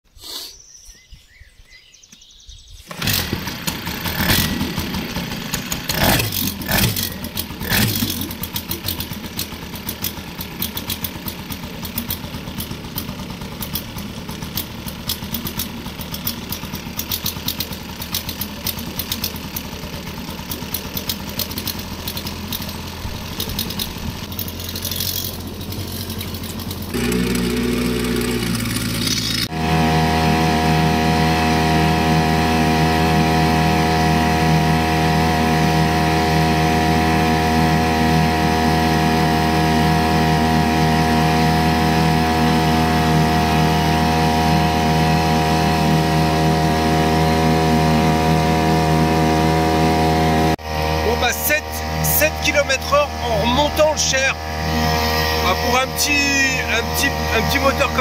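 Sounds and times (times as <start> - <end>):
outboard motor running: 2.9 - 58.0.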